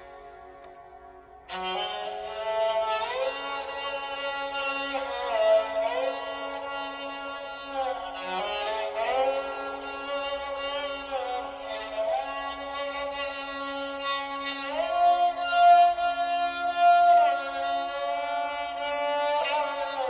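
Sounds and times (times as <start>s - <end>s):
bowed string melody: 0.0s - 20.0s.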